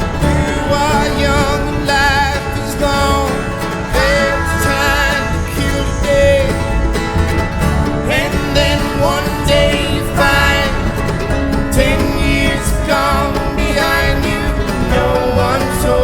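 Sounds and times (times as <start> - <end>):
country music with plucked strings: 0.0 - 16.0.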